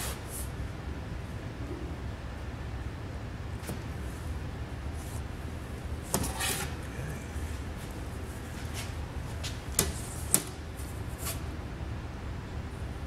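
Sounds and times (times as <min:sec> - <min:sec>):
low shop hum: 0:00.0 - 0:13.0.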